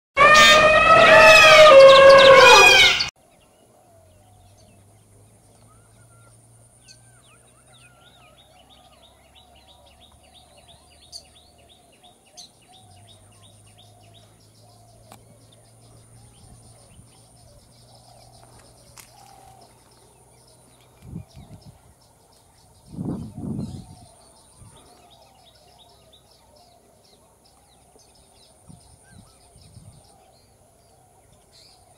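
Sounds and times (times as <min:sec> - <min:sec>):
small birds chirping: 0:01.7 - 0:31.9.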